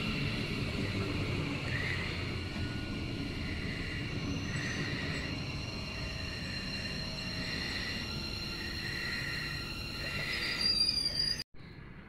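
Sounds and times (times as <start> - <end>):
pulsing hiss: 0.0 - 11.4
train wheels rumbling: 0.0 - 11.4
thin high ringing tones: 1.7 - 11.4.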